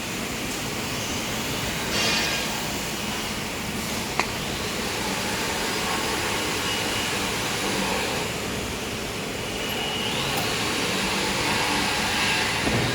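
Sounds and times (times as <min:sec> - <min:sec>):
steady machine noise: 0:00.0 - 0:12.9.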